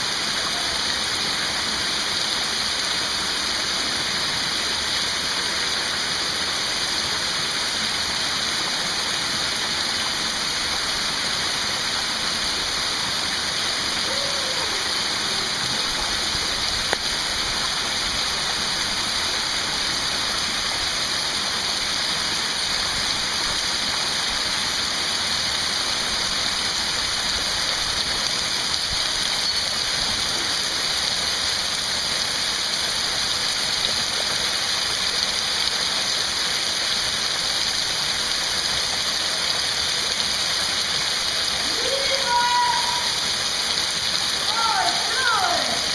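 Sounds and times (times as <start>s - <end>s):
waterfall rushing into pool: 0.0s - 45.9s.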